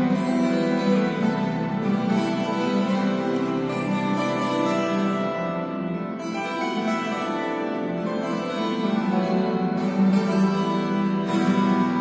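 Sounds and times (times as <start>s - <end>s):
two guitars playing: 0.0s - 12.0s.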